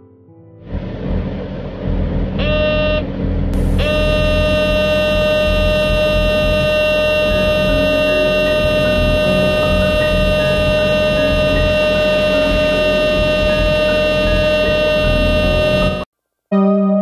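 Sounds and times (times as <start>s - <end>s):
engine rumbling: 0.7s - 16.1s
horn blasts: 2.4s - 16.1s.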